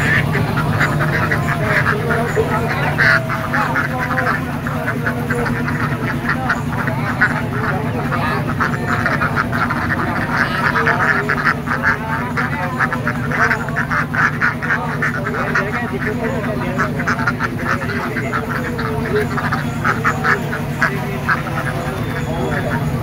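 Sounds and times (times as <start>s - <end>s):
ducks quacking: 0.0s - 23.0s
steady low hum: 0.0s - 23.0s.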